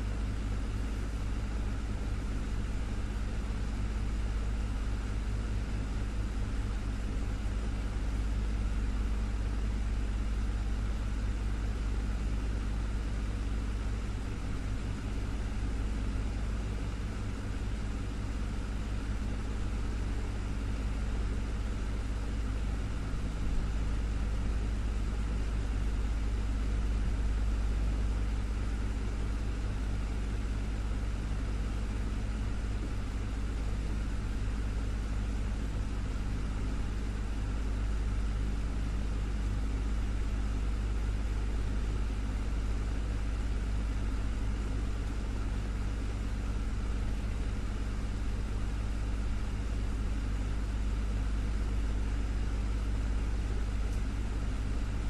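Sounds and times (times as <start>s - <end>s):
desktop fan humming: 0.0s - 55.0s.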